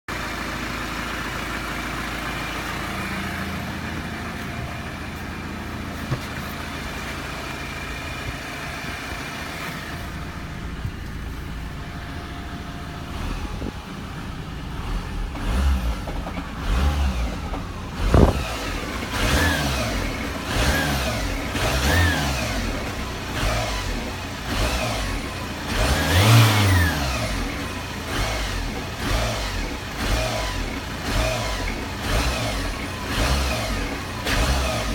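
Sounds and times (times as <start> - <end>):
diesel engine idling and revving: 0.0 - 34.9.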